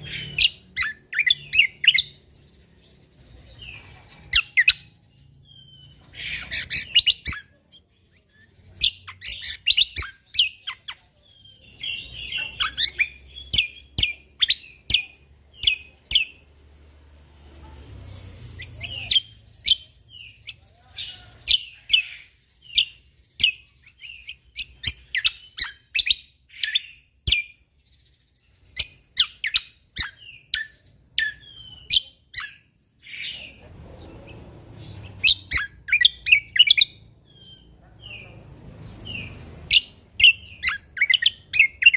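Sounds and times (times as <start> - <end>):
songbird chirping and whistling: 0.0 - 16.6, 18.0 - 41.9.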